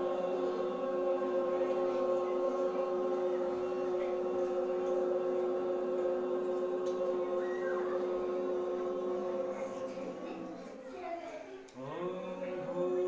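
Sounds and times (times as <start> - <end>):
children chanting long note: 0.0 - 13.0.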